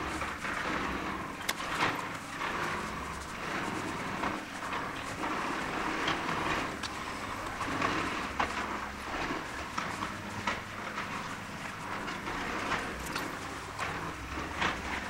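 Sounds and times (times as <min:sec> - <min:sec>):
demolition machinery clattering: 0:00.0 - 0:15.0.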